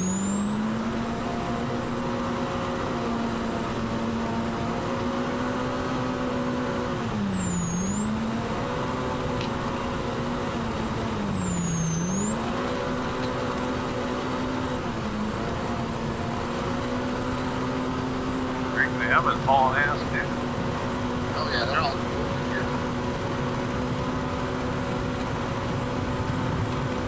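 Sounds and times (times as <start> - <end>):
engine running hard with whine: 0.0 - 27.0
wind and dirt road noise: 0.0 - 27.0.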